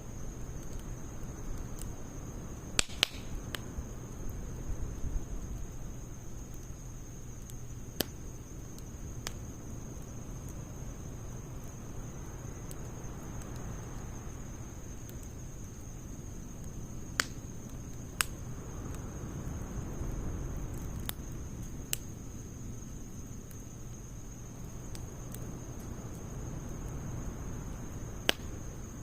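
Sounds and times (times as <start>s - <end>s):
fire crackling pops: 0.0s - 29.0s
high insect trill: 0.0s - 29.0s
wood fire burning: 0.0s - 29.0s.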